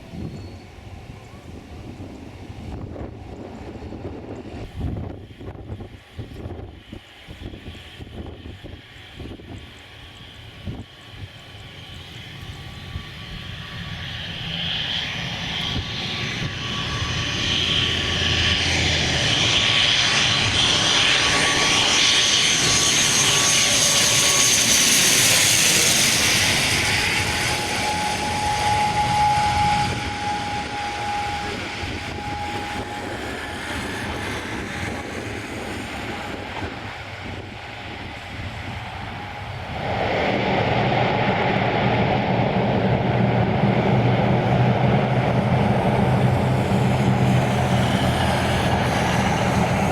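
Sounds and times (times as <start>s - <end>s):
airliner engines passing: 0.0s - 49.9s.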